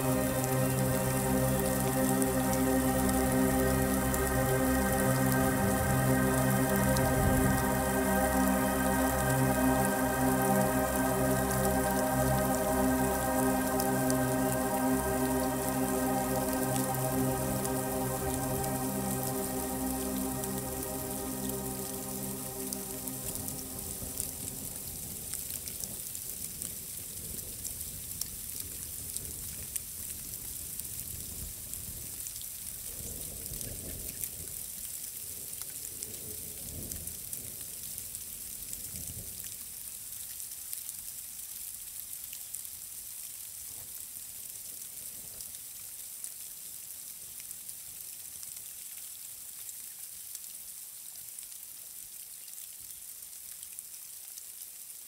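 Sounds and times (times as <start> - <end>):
rain hissing and pattering: 0.0 - 55.0.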